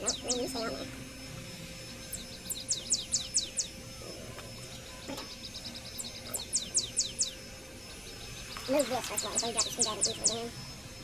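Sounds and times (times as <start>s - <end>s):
faint steady hum: 0.0s - 11.0s
songbird singing: 0.0s - 11.0s.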